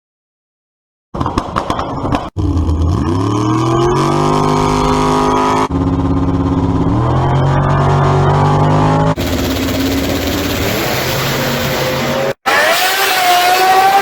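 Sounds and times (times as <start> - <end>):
engine revving: 2.4 - 14.0.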